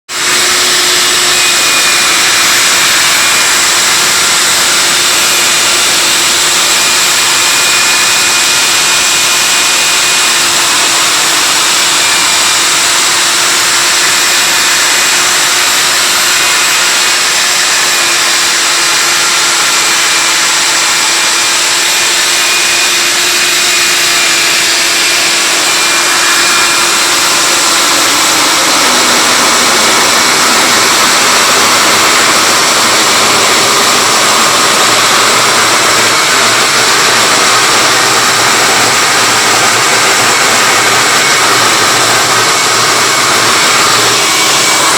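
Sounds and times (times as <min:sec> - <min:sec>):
drill bit grinding concrete: 0:00.0 - 0:44.9
core drill motor whine: 0:00.1 - 0:44.9.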